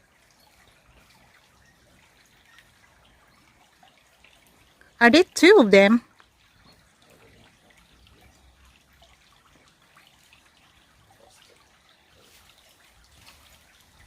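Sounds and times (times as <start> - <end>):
small water drips: 0.0 - 5.0, 6.0 - 14.0
creek water trickling: 0.0 - 14.0.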